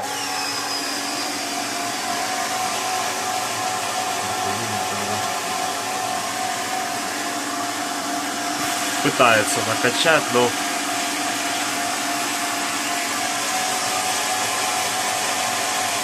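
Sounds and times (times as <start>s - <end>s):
water pump whining: 0.0s - 16.0s.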